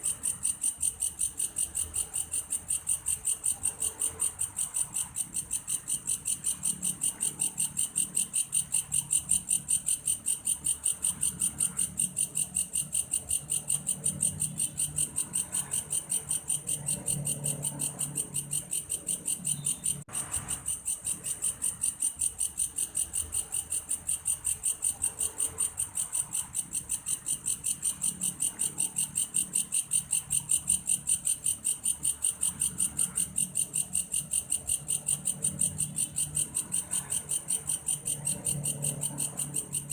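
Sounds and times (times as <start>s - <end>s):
grasshopper trilling: 0.0s - 39.9s.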